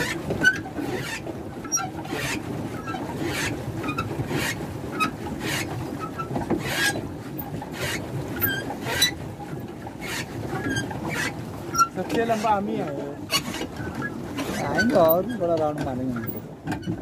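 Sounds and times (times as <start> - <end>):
water splashing against hull: 0.0 - 17.0.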